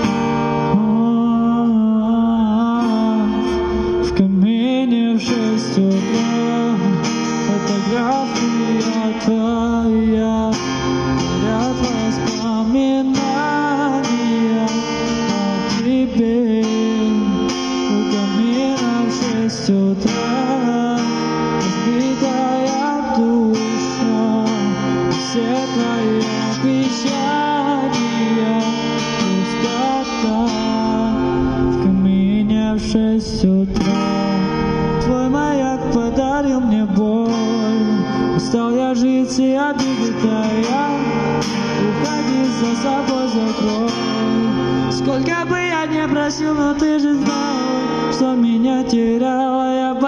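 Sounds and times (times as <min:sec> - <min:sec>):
man singing pop song: 0:00.0 - 0:50.0
strummed acoustic guitar: 0:00.0 - 0:50.0.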